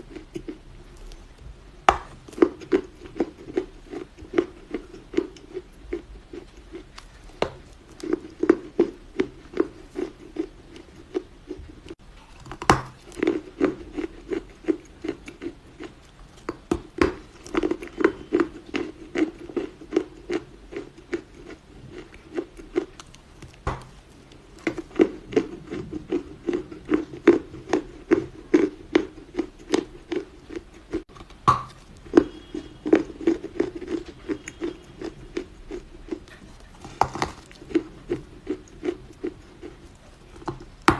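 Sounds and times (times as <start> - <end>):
person chewing clay crunches: 0.0 - 40.9.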